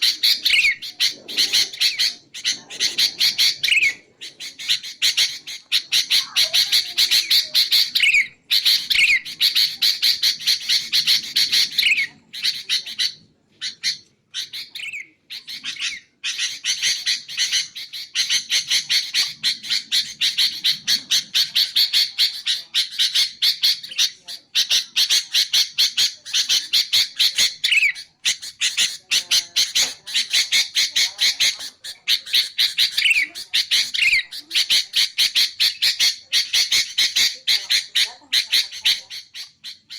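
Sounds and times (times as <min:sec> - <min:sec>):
bird harsh chattering call: 0:00.0 - 0:39.9.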